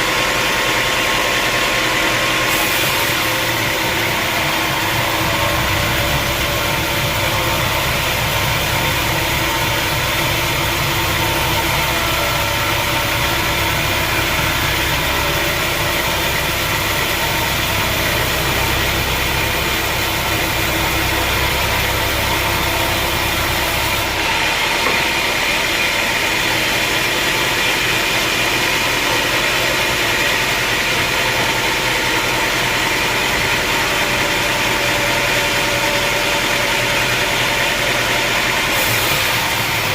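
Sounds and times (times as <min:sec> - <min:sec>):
sawmill machinery hum and whine: 0:00.0 - 0:39.9.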